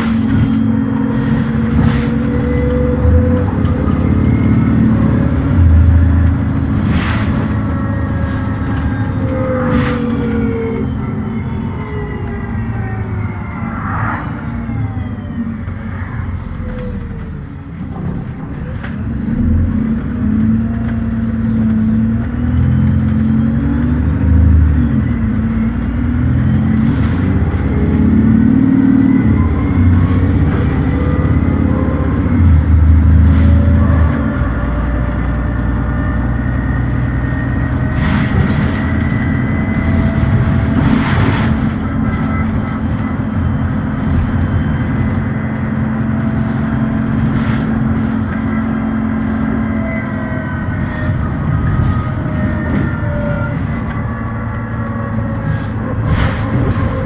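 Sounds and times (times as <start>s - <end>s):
transmission whine: 0.0s - 18.2s, 19.0s - 57.0s
bus diesel engine driving: 0.0s - 57.0s.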